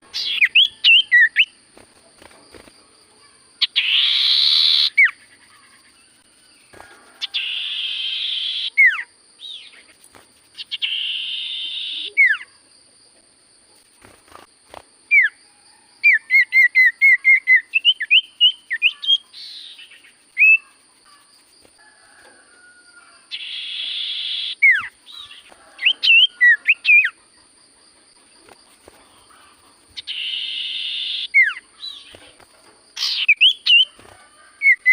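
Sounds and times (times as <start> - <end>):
bird singing: 0.0 - 12.7, 15.1 - 21.5, 23.0 - 34.9.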